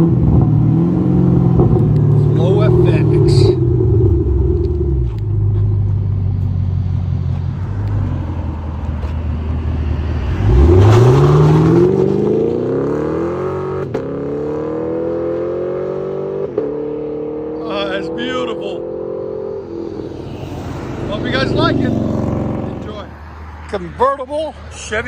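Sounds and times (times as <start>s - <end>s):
car engine revving: 0.0s - 23.3s.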